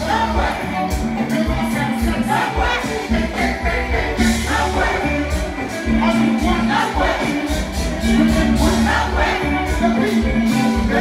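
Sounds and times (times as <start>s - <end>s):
bass line: 0.0s - 11.0s
live band music: 0.0s - 11.0s
percussion beat: 0.0s - 11.0s.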